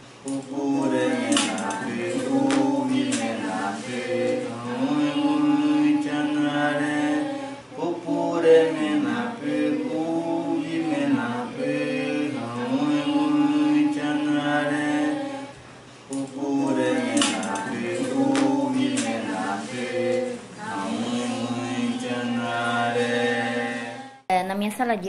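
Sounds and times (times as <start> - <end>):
men singing a chant: 0.3 - 15.5, 16.1 - 24.2.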